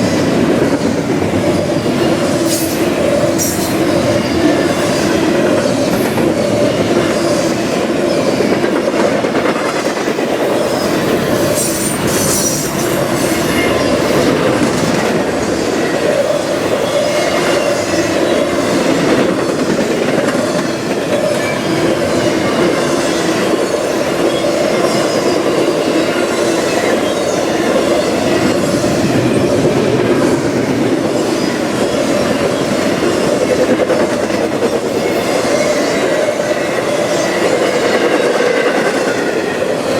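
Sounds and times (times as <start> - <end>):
train cars rumbling past: 0.0 - 39.9.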